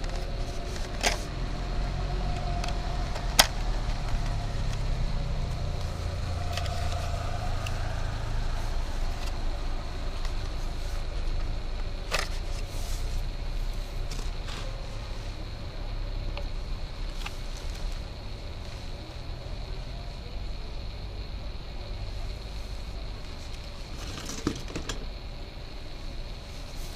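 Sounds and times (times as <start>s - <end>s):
scooter engine rumbling: 0.0s - 25.7s.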